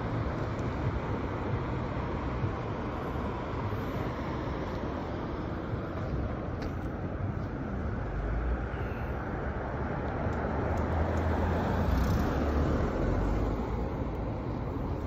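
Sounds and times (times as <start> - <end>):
cars passing and turning: 0.0 - 15.0
low traffic rumble: 0.0 - 15.0.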